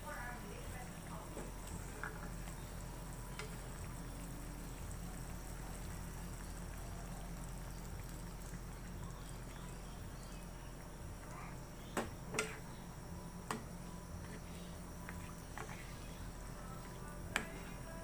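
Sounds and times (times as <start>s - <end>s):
sauce bubbling in a frying pan: 0.2s - 18.0s.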